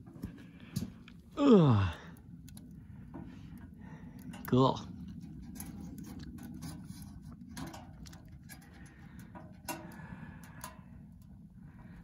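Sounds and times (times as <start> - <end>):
low steady rumble: 0.0 - 12.0
wood fire ticking and crackling: 0.0 - 12.0.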